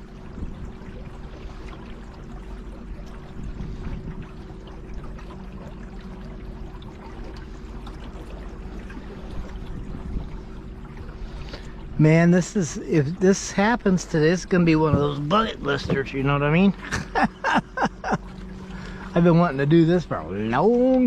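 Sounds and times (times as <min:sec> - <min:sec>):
steady low hum: 0:00.0 - 0:21.0
water splashing around kayak: 0:00.0 - 0:21.0.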